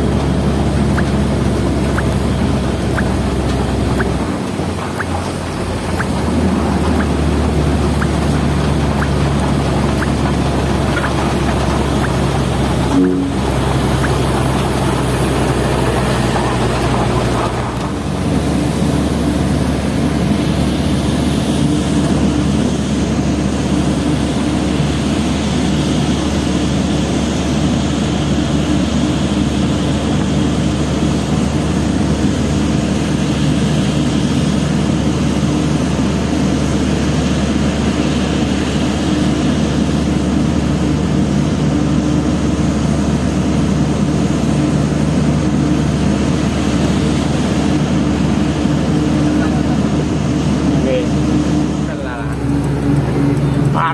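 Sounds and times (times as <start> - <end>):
diesel truck engine under load: 0.0 - 53.9.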